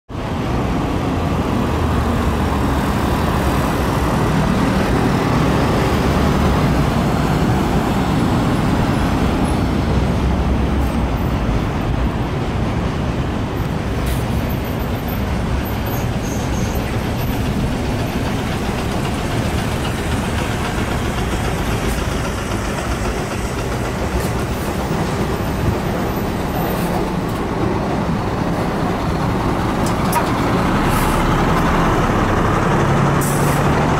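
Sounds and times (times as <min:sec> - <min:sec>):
buses rumbling: 0:00.1 - 0:33.9
road traffic noise: 0:00.1 - 0:33.9.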